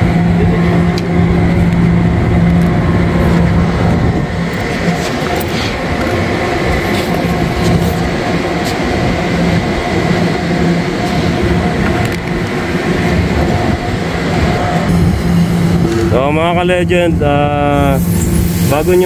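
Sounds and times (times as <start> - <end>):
machinery droning: 0.0 - 19.0.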